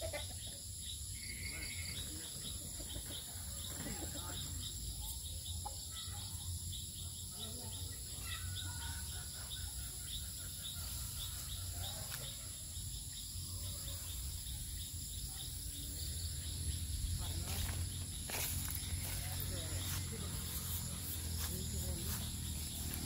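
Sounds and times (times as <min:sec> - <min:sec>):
crickets chirping: 0:00.0 - 0:23.0
high insect hum: 0:00.0 - 0:23.0.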